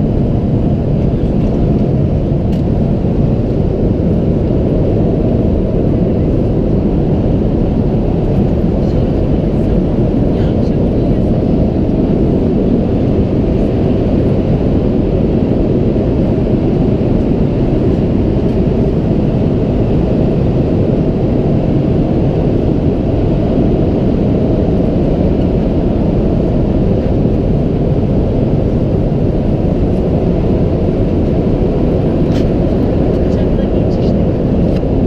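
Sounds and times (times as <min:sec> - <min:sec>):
airliner cabin engine rumble: 0:00.0 - 0:35.0.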